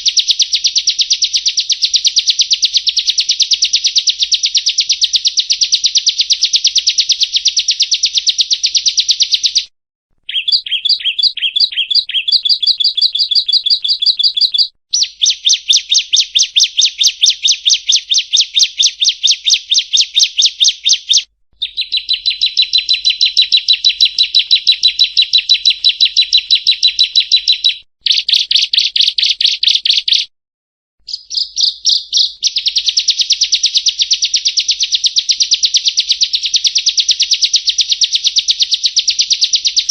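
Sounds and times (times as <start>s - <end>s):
bird fast high chirping: 0.0s - 30.3s, 31.0s - 39.9s.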